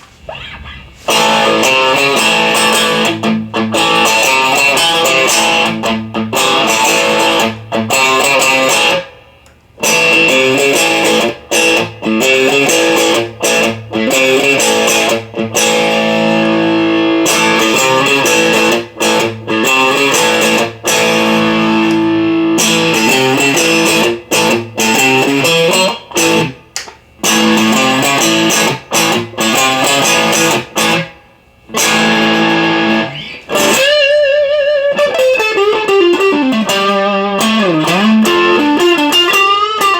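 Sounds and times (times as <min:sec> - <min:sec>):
electric guitar chords and riffs: 0:00.3 - 0:39.9.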